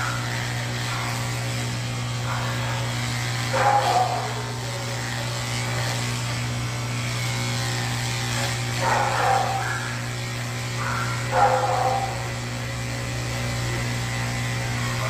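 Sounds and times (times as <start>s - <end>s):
electric clippers humming: 0.0s - 15.0s.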